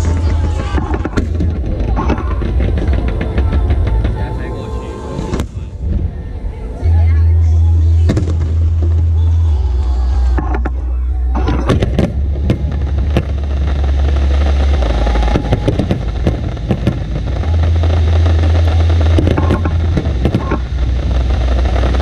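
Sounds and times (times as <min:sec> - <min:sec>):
fireworks cracks and bangs: 0:00.0 - 0:06.1, 0:08.0 - 0:22.0
deep rumble: 0:00.0 - 0:22.0.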